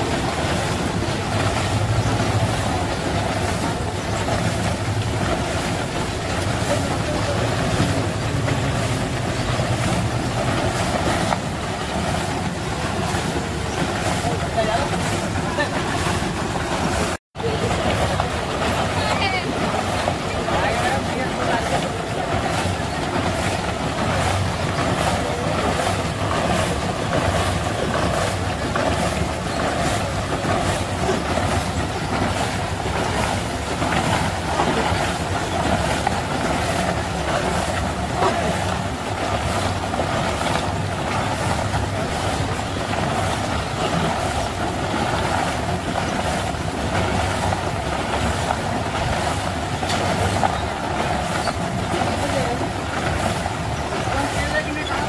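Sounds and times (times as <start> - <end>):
ice cream machine motor running: 0.0 - 55.0.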